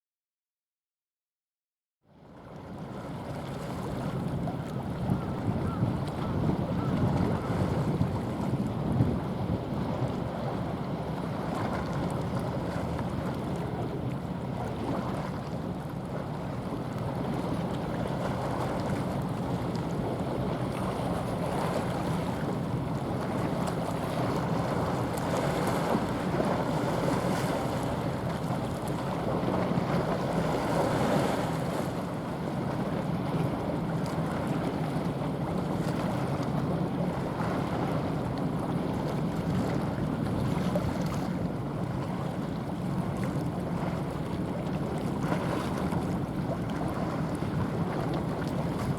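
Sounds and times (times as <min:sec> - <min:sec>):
ship engine drone: 0:03.0 - 0:48.9
wind buffeting microphone: 0:03.9 - 0:48.9.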